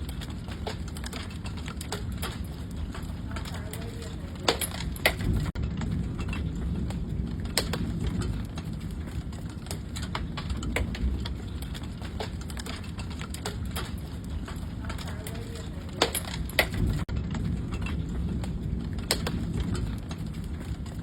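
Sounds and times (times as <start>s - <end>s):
hailstones striking hard surfaces: 0.0s - 21.0s
wind rumbling: 0.0s - 21.0s.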